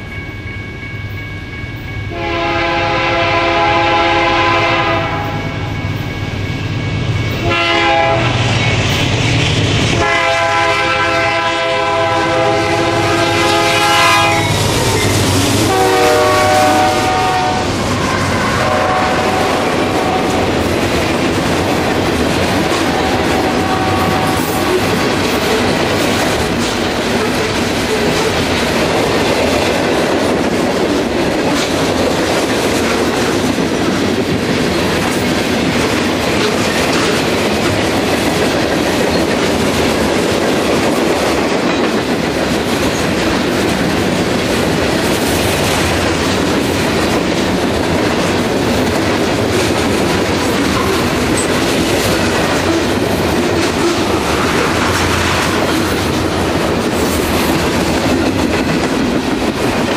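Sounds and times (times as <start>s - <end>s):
freight train rolling past: 0.0s - 59.9s
steel wheels rumbling on rails: 0.0s - 59.9s.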